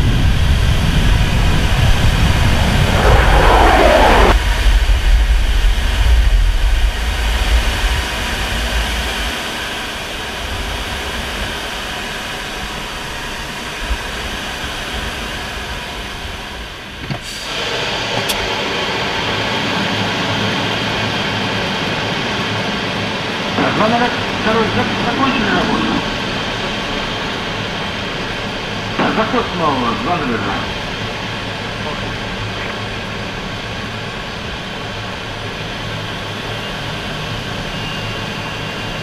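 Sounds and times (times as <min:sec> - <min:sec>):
jet fighter engines in flight: 0:00.0 - 0:39.0.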